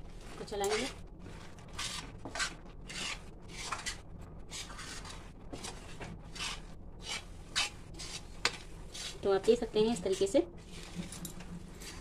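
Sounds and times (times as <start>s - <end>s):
metal spatula scraping a metal pan: 0.5s - 1.0s, 1.7s - 11.2s.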